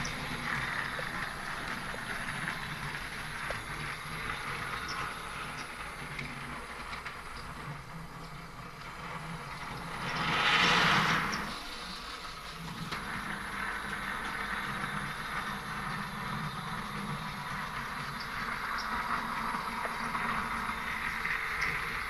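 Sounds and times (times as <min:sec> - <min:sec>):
toy train motor whirring: 0:00.0 - 0:22.0
toy wheels ticking: 0:00.0 - 0:22.0.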